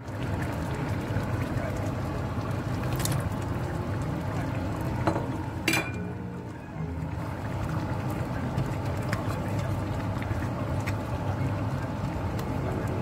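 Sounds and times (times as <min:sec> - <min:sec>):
stew bubbling in a pan: 0:00.0 - 0:13.0.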